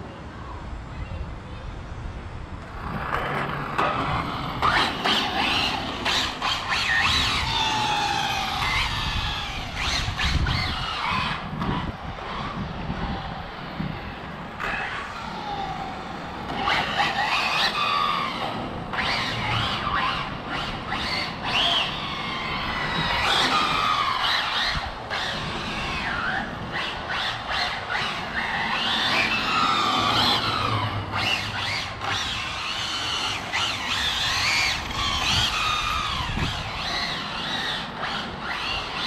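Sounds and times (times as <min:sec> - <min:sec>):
electric motors whining: 0:02.6 - 0:39.0.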